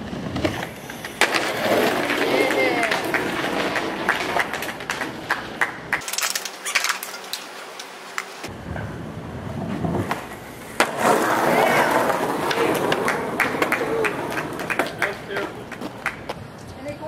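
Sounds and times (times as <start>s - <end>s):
skateboard clicks and knocks: 0.0s - 16.4s
skateboard wheels rolling on pavement: 0.0s - 17.0s.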